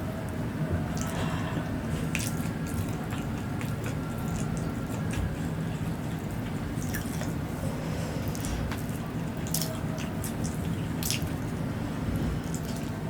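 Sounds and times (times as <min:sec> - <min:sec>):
steady low hum: 0:00.0 - 0:13.0
chewing with wet mouth clicks: 0:00.8 - 0:07.6, 0:08.2 - 0:11.6, 0:12.2 - 0:13.0.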